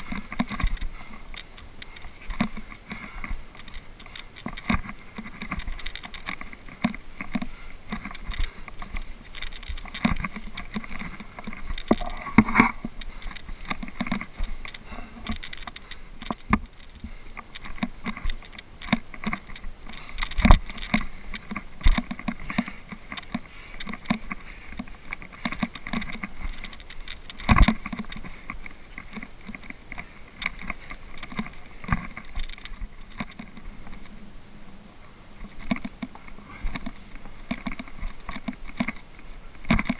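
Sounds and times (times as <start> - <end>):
hands and boots scraping rock: 0.0 - 34.2.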